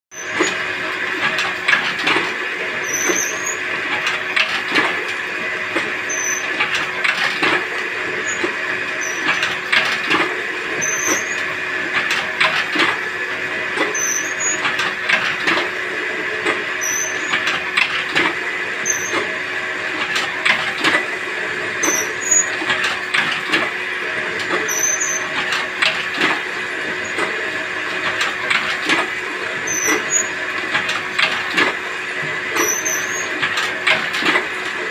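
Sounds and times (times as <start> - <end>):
machine knock and squeak: 0.2 - 5.2, 5.8 - 13.0, 13.7 - 15.8, 16.4 - 19.3, 21.8 - 34.7
machine humming: 0.2 - 34.9.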